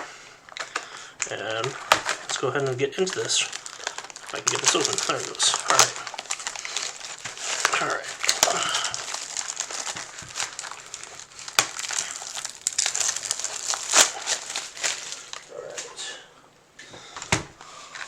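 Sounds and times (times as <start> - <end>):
plastic shrink wrap crinkling: 0.0 - 16.0.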